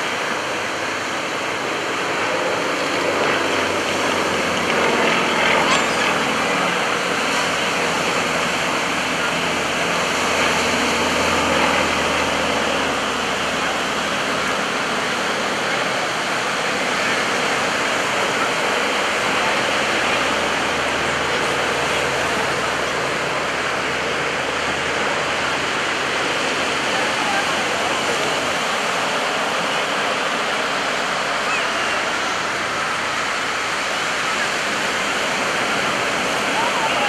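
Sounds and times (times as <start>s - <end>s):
distant propeller planes droning: 0.0s - 37.0s
steady rushing noise: 0.0s - 37.0s.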